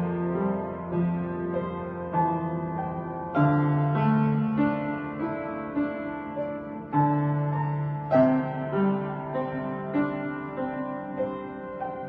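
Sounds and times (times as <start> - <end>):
slow gentle piano piece: 0.0 - 12.0.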